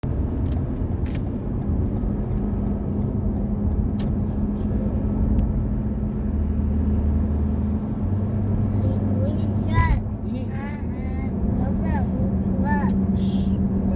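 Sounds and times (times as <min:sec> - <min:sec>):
road noise: 0:00.0 - 0:13.9
truck engine drone: 0:00.0 - 0:13.9.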